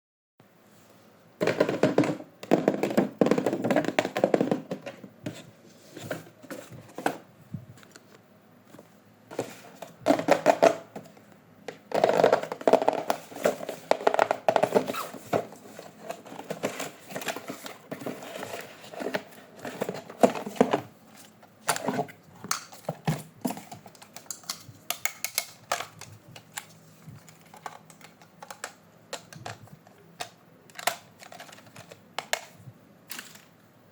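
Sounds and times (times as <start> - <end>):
plastic toys and packaging handled: 1.4 - 33.6.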